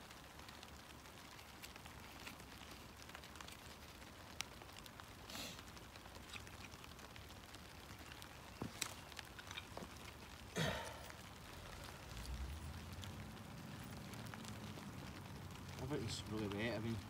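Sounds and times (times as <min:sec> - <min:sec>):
wood splintering crack: 0:00.0 - 0:17.0.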